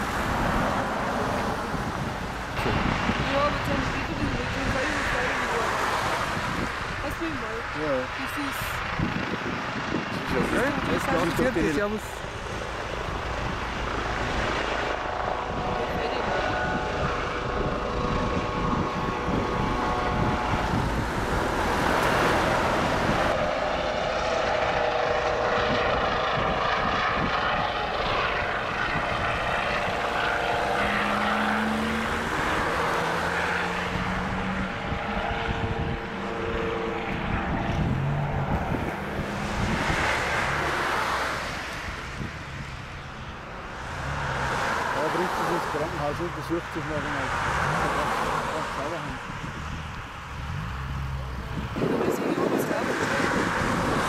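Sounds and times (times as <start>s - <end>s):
helicopter engine and rotor: 0.0s - 5.6s, 6.3s - 43.8s, 47.9s - 49.4s, 51.4s - 54.0s.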